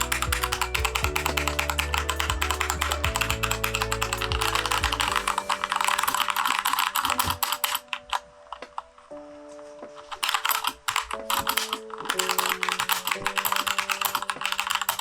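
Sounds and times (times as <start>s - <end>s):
fast typing on mechanical keyboard: 0.0s - 7.8s, 10.2s - 15.0s.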